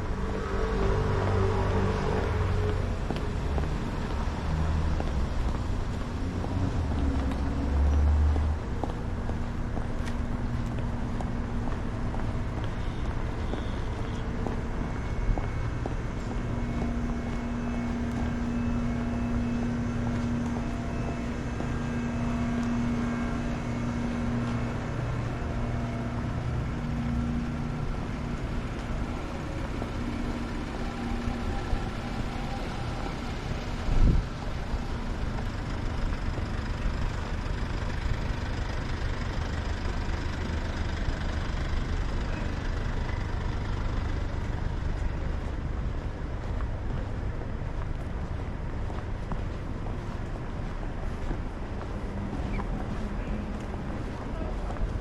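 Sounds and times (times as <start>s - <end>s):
passing and idling vehicles: 0.0s - 55.0s
steady engine hum: 0.0s - 55.0s.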